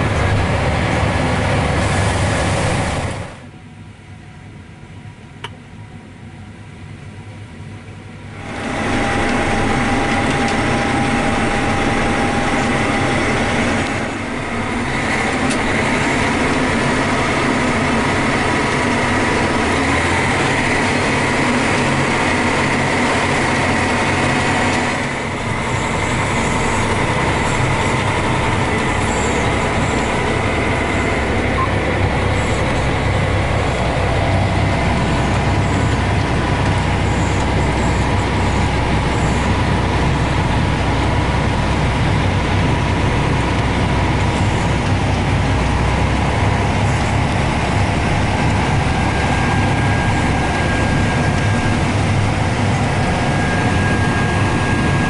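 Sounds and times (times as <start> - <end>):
engine rumble: 0.0 - 55.0
whining machine tones: 8.3 - 55.0.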